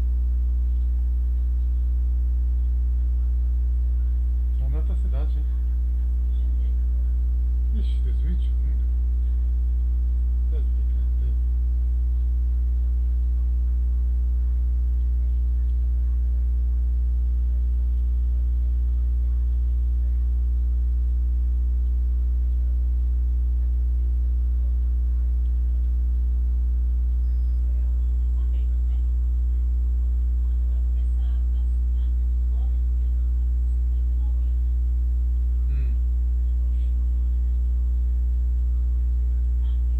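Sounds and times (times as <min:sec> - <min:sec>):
electrical mains hum: 0:00.0 - 0:39.9
faint murmurs: 0:00.2 - 0:39.9.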